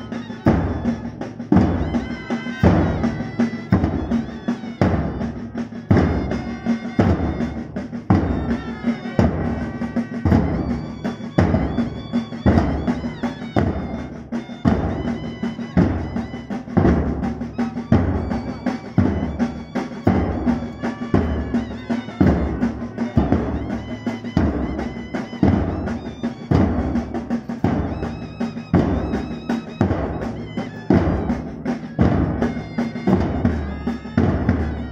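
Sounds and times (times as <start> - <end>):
band holding notes: 0.0 - 34.9
bass drums beating march: 0.0 - 34.9.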